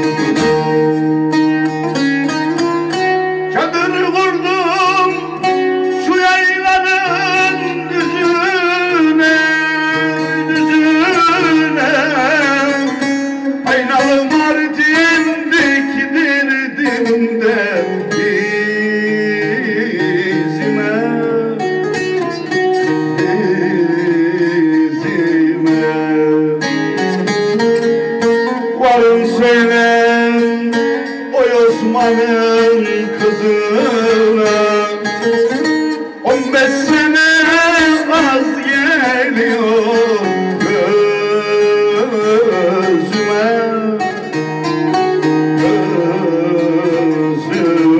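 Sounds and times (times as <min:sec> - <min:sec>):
man singing: 0:00.0 - 0:47.9
plucked long-necked lute melody: 0:00.0 - 0:47.9.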